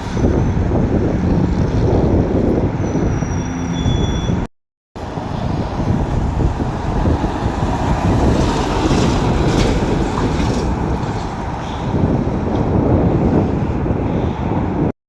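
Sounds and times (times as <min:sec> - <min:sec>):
low vehicle rumble: 0:00.0 - 0:14.9
wind buffeting microphone: 0:00.0 - 0:14.9.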